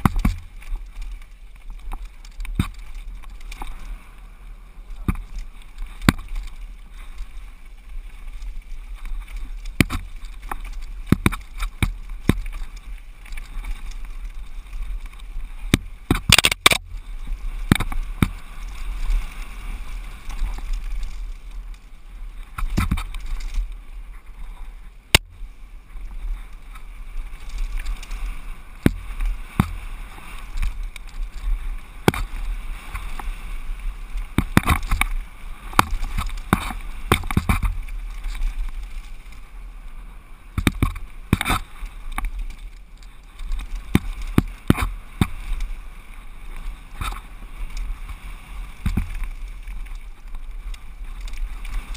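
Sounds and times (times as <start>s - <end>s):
bike knocking and rattling on bumps: 0.0s - 4.2s, 4.8s - 39.5s, 40.5s - 51.9s
wind and riding noise rumble: 0.0s - 51.9s.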